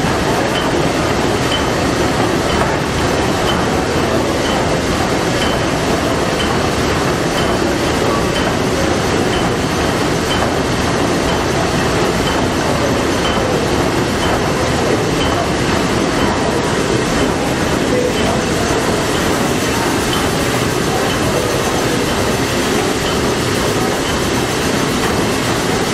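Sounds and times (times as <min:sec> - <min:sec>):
steam engine running: 0:00.0 - 0:25.9.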